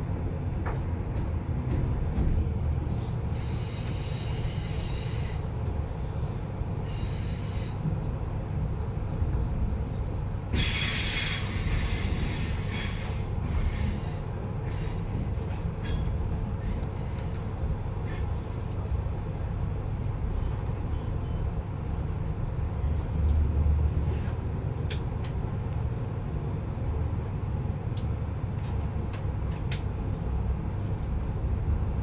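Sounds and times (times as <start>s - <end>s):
train rumbling on track: 0.0s - 32.0s.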